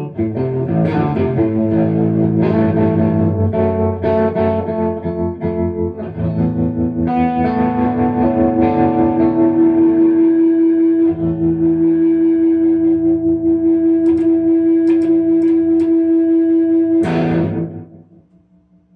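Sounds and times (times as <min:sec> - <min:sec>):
slow blues electric guitar: 0:00.0 - 0:18.2.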